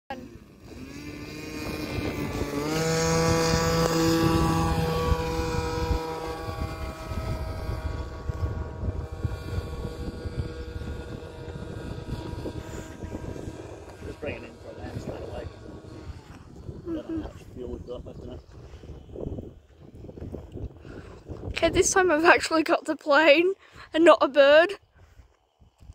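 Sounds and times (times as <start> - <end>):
model aircraft engine buzzing: 0.1 - 22.4.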